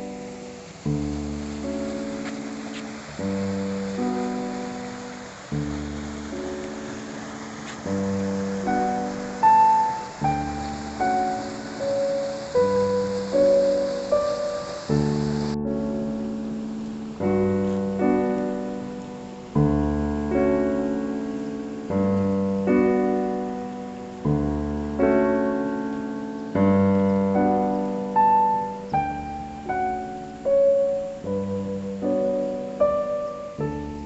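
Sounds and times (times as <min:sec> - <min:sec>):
light piano melody: 0:00.0 - 0:34.0
slow piano chords: 0:00.0 - 0:34.0.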